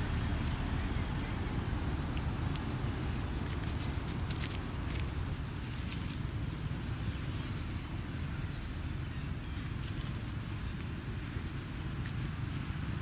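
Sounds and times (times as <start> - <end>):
dry leaves crackling: 0.0 - 7.4, 9.4 - 13.0.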